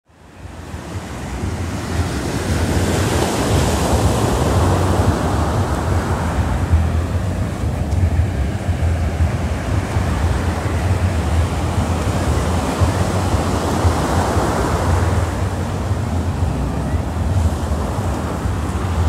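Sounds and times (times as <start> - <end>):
ocean waves washing up beach: 0.1 - 19.0
wind rumbling on microphone: 0.1 - 19.0.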